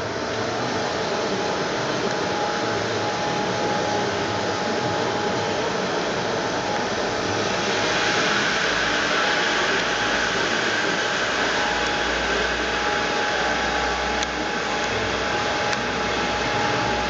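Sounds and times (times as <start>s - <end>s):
band saw whirring: 0.0s - 17.0s.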